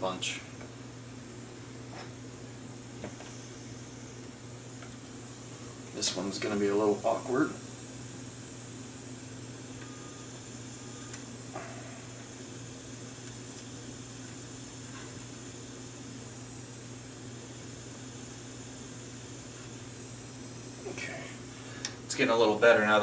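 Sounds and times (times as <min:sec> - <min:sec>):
gas soldering iron hissing: 0:00.0 - 0:23.0.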